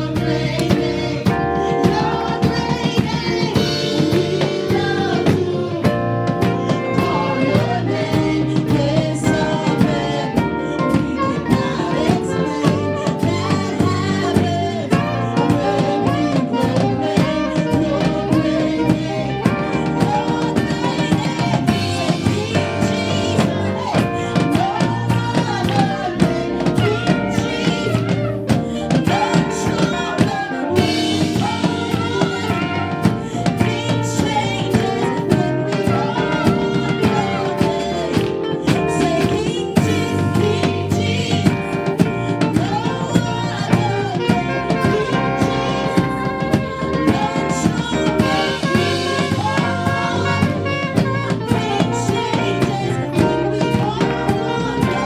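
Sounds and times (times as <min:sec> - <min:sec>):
band with drum kit playing: 0:00.0 - 0:55.0
person singing: 0:00.0 - 0:55.0.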